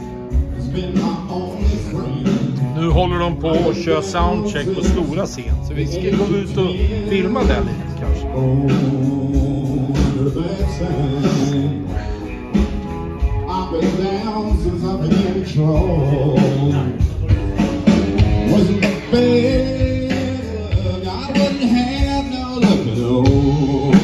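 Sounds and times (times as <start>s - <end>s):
drums: 0.0s - 24.0s
electric guitar: 0.0s - 24.0s
person singing: 0.0s - 24.0s.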